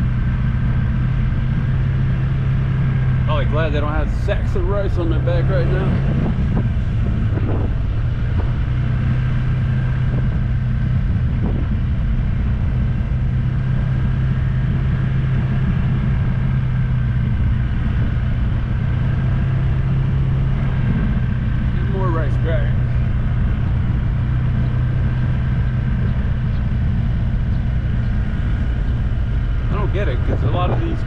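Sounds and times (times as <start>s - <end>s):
road noise: 0.0s - 31.0s
vehicle engine drone: 0.0s - 31.0s.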